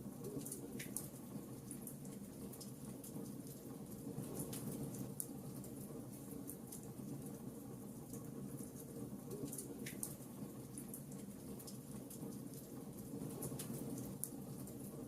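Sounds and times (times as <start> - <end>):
wood fire crackling: 0.4 - 15.0.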